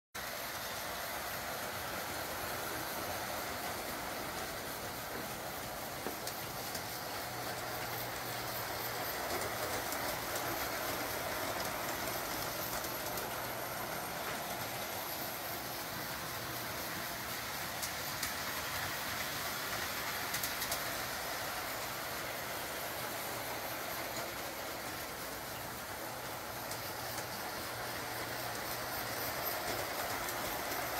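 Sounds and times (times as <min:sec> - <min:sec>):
model train motors whirring: 0:00.2 - 0:30.9
wheels clicking over rail joints: 0:02.6 - 0:22.5, 0:23.9 - 0:30.9.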